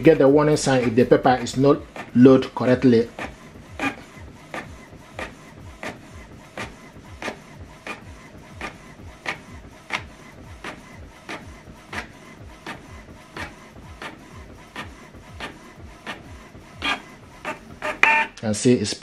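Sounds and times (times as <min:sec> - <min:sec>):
inkjet printer printing: 0:00.0 - 0:18.4.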